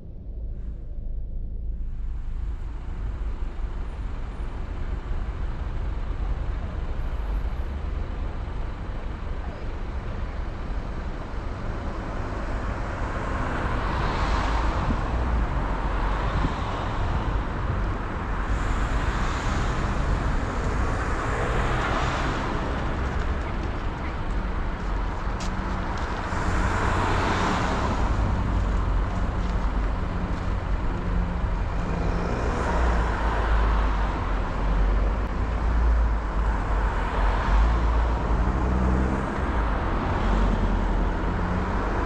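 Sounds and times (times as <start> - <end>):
car tyre and wind noise: 0.0 - 42.0.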